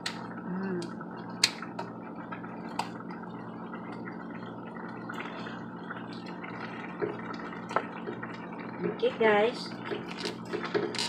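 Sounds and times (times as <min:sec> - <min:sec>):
sauce simmering and bubbling: 0:00.1 - 0:11.0.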